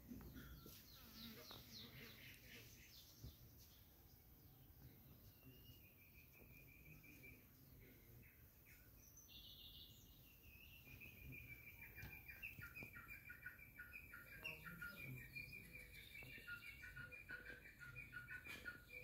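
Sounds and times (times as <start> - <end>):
faint bird chirping: 0.0 - 19.0.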